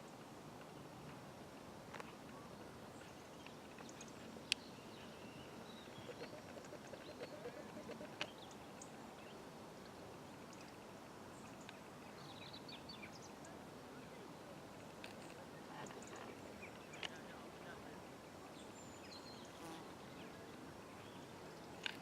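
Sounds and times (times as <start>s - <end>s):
small birds chirping: 1.9s - 22.0s.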